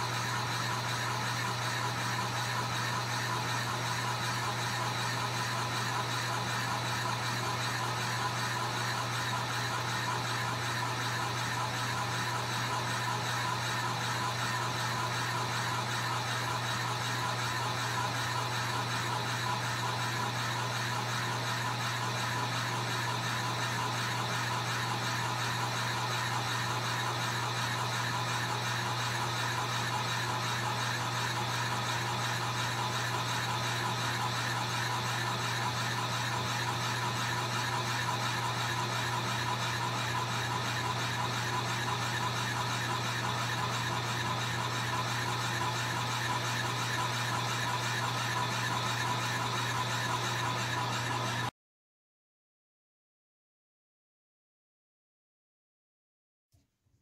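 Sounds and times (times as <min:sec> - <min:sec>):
drill press boring into log: 0:00.0 - 0:51.5.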